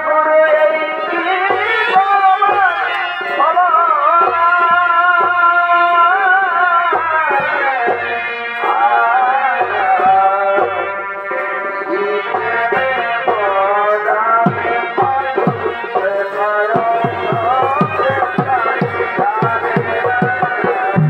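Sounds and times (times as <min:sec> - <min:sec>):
shehnai melody: 0:00.6 - 0:04.7, 0:07.4 - 0:21.0.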